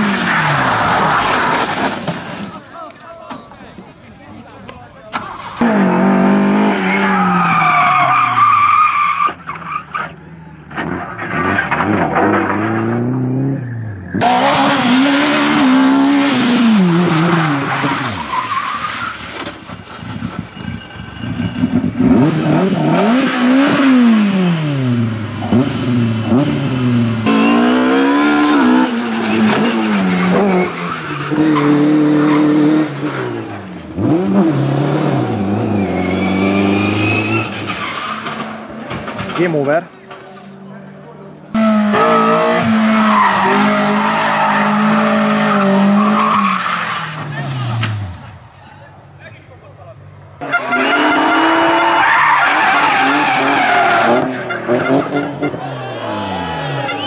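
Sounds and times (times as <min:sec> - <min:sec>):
rally car engines revving: 0:00.0 - 0:02.7, 0:04.9 - 0:57.0
tyres skidding on gravel: 0:00.0 - 0:49.4, 0:50.4 - 0:57.0.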